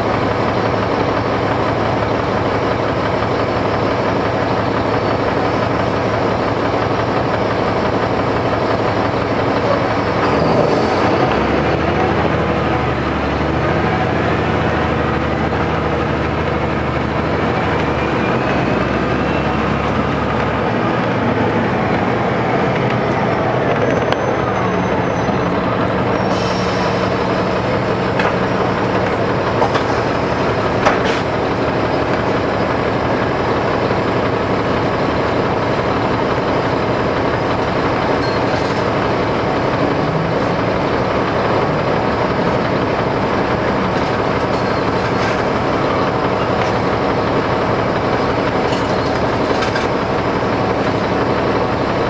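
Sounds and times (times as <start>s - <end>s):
bus diesel engine idling: 0.0s - 52.0s.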